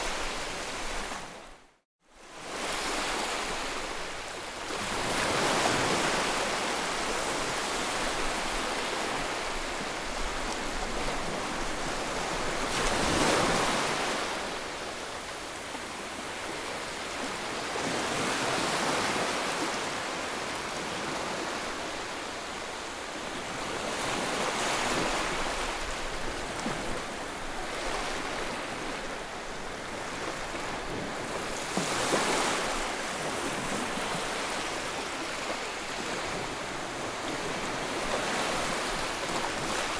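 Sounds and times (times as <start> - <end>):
waves breaking: 2.4 - 22.6, 23.2 - 39.9.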